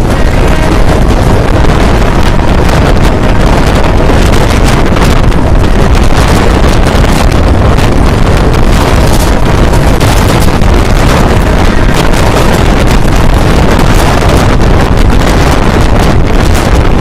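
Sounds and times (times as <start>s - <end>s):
train running noise: 0.0s - 17.0s
wind rushing over microphone: 0.0s - 17.0s.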